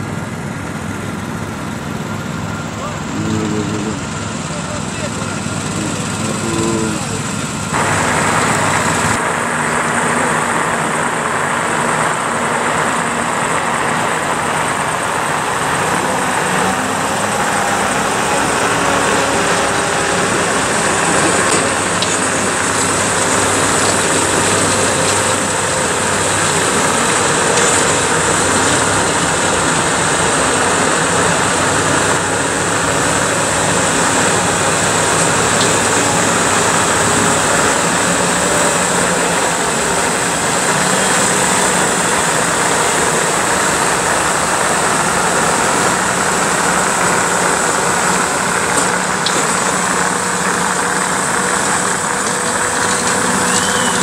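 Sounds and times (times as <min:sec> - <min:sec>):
ice resurfacing machine running: 0:00.0 - 0:54.0.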